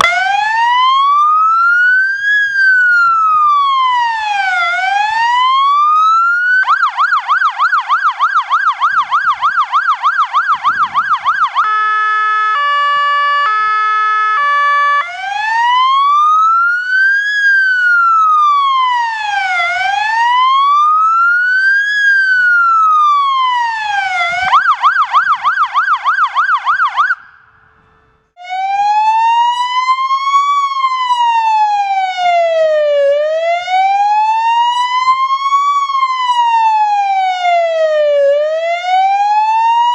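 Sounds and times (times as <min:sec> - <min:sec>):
fire engine siren: 0:00.0 - 0:39.9.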